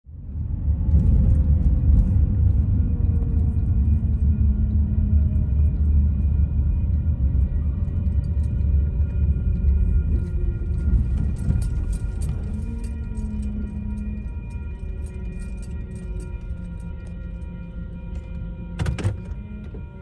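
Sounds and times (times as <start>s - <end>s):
car driving rumble: 0.2s - 17.0s.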